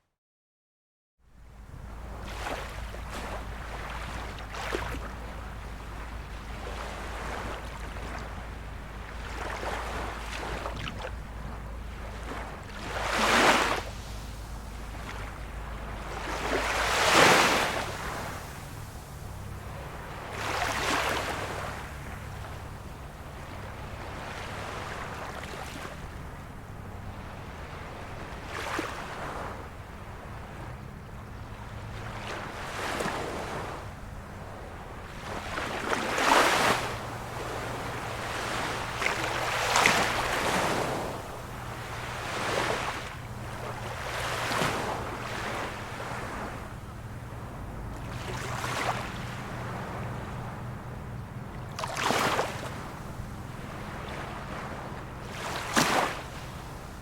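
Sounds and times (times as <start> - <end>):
steady low rumble: 1.3 - 36.2, 36.8 - 55.6
sea waves lapping and splashing: 1.4 - 57.0.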